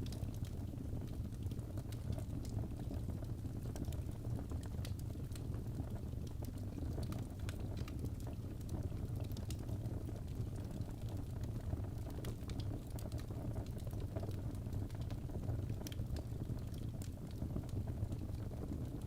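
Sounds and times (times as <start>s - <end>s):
fire crackles and pops: 0.0s - 19.0s.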